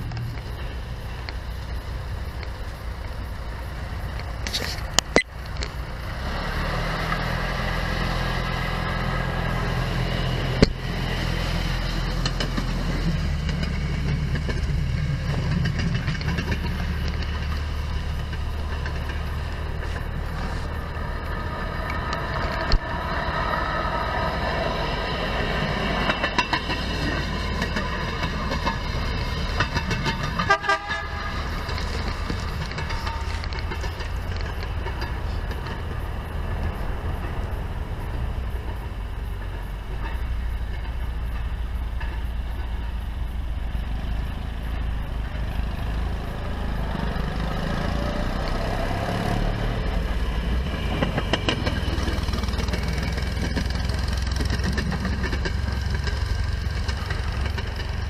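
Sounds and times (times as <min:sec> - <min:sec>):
small engines droning: 0:00.0 - 0:58.0.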